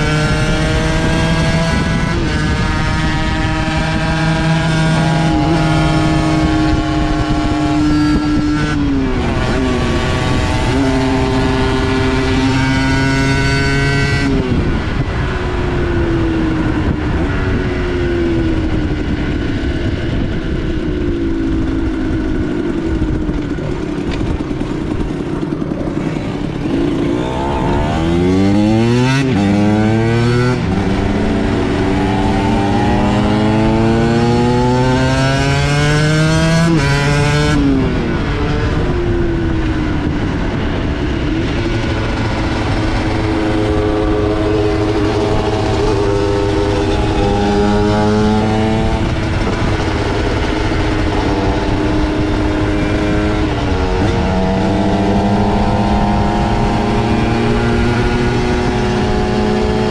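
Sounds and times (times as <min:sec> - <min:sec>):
motorcycle engine revving: 0:00.0 - 0:59.9
wind noise: 0:00.0 - 0:59.9.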